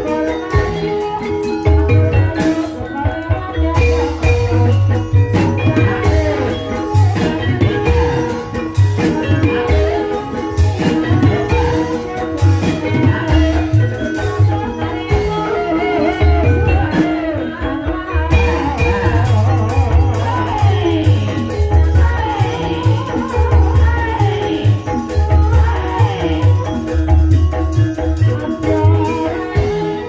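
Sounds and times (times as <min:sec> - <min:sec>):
keyed percussion melody: 0:00.0 - 0:30.0.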